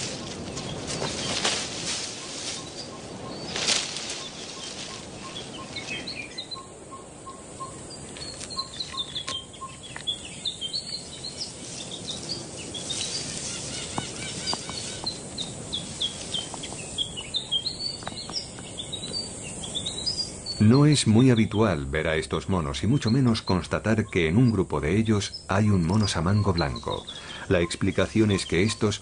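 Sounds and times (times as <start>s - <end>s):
forest birds chirping: 0.0s - 29.0s.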